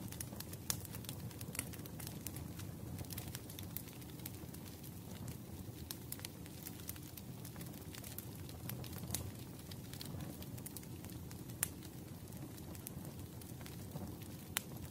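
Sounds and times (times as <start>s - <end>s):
wood fire crackling: 0.0s - 14.9s.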